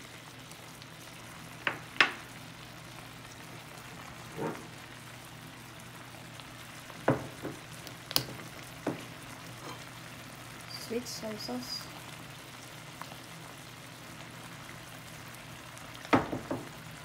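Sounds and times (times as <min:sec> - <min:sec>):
meat sizzling in sauce: 0:00.0 - 0:17.0.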